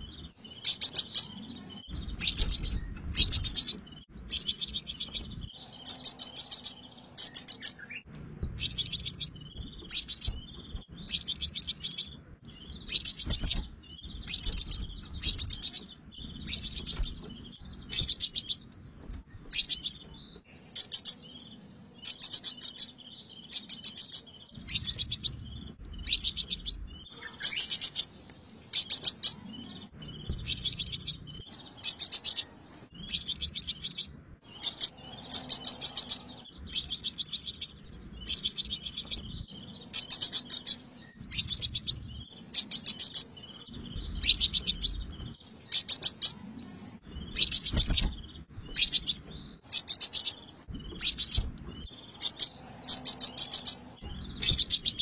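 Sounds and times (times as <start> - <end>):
sunbird trilled song: 0.0 - 55.0.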